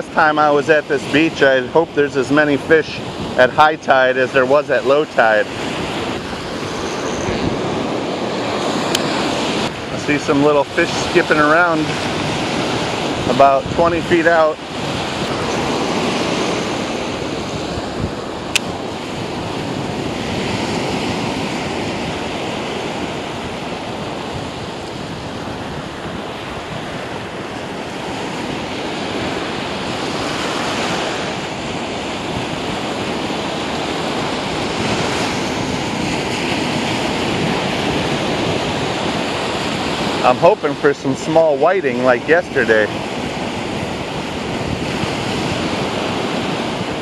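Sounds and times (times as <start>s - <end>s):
ocean surf breaking: 0.0s - 47.0s
wind buffeting microphone: 0.0s - 47.0s.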